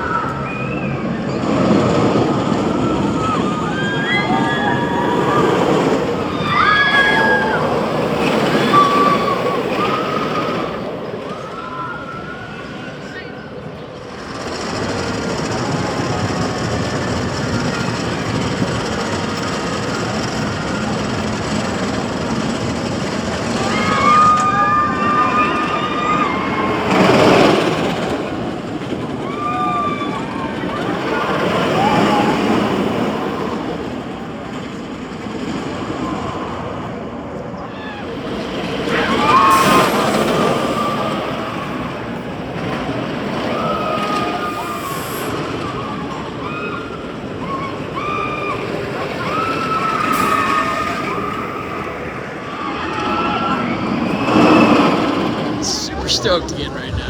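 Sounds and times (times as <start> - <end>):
roller coaster train on track: 0.0 - 57.0.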